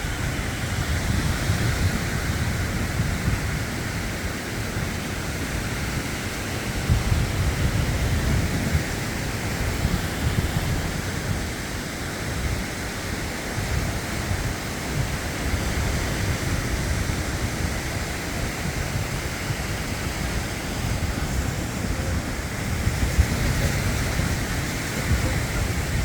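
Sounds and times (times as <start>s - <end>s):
sea surf rushing: 0.0s - 26.0s
wind buffeting microphone: 0.0s - 26.0s.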